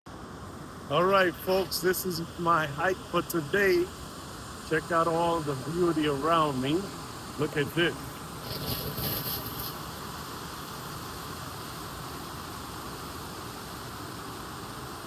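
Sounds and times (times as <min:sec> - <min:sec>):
rustle: 0:00.1 - 0:15.0
waterfall rushing: 0:00.2 - 0:15.0.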